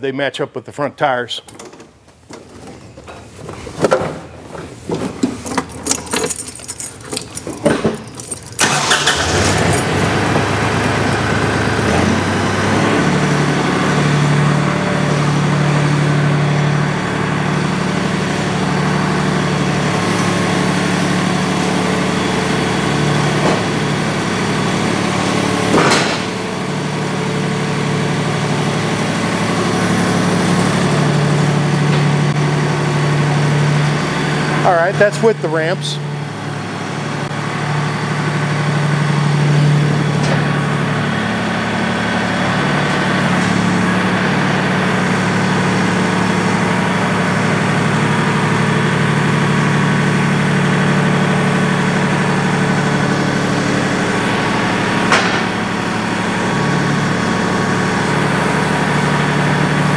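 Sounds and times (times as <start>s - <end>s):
tractor diesel engine running: 4.5s - 59.9s.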